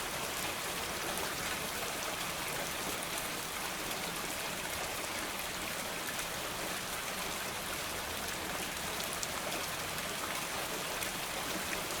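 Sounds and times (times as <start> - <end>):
raindrops pattering: 0.0 - 12.0.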